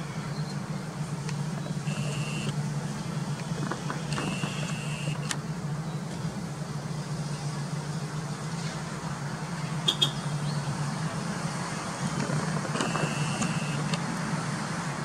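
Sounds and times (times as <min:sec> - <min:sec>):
low city hum: 0:00.0 - 0:15.0.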